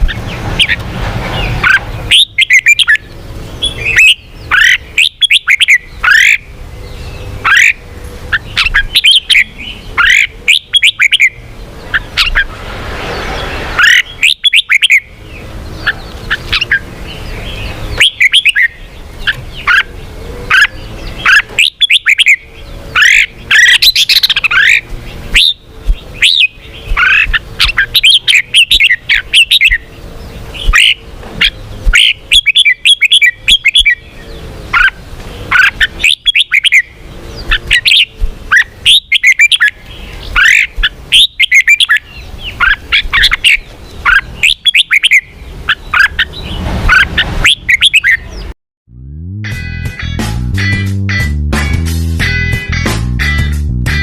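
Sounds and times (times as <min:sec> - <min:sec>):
bird chirping: 0:00.0 - 0:48.6.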